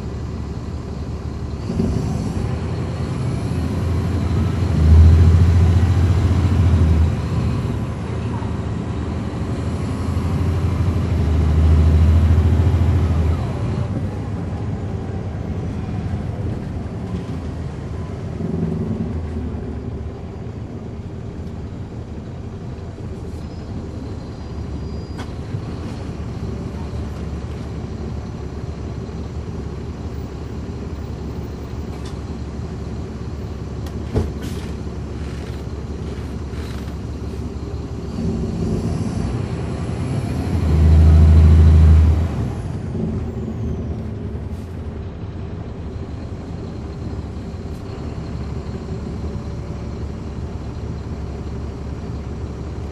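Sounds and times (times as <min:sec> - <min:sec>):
bus diesel engine running: 0:00.0 - 0:52.9.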